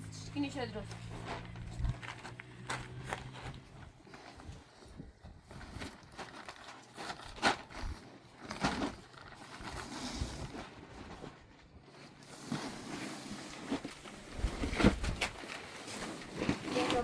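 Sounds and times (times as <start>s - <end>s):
handling knocks and rustling: 0.8s - 17.0s.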